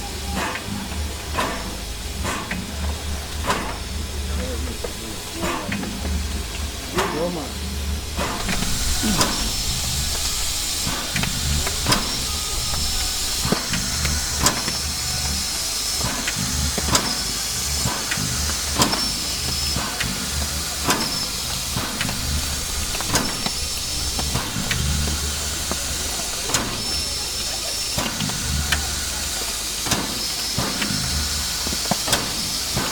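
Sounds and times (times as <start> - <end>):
locomotive low pulsing throb: 0.0 - 32.9
steam hissing: 0.0 - 32.9.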